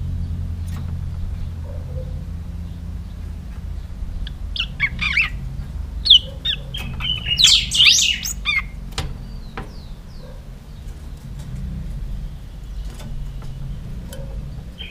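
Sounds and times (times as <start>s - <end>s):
songbird chirping and trilling: 0.1s - 14.9s.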